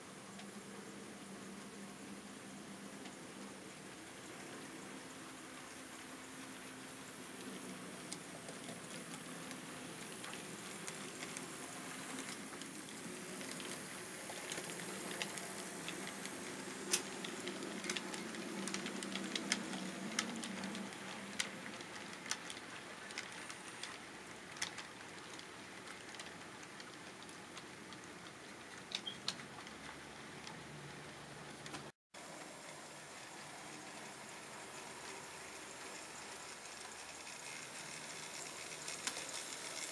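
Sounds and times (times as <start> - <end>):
model train hiss and hum: 0.0 - 28.9, 30.8 - 39.9
wheels clicking on track: 1.4 - 39.9.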